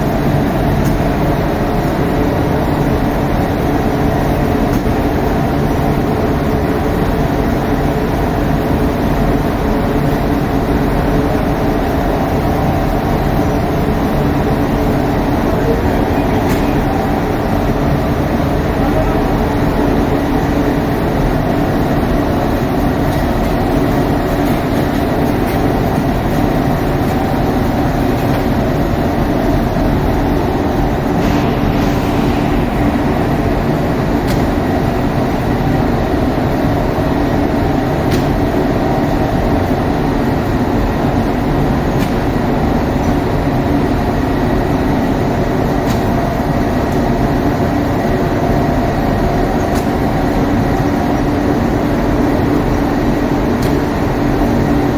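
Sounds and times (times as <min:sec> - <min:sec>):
loud machine hum: 0:00.0 - 0:54.9.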